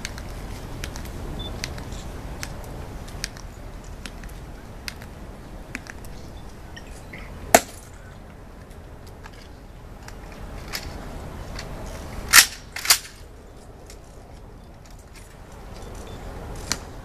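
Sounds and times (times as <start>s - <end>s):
low outdoor rumble: 0.0s - 17.0s
shoes clicking on stone: 0.0s - 17.0s.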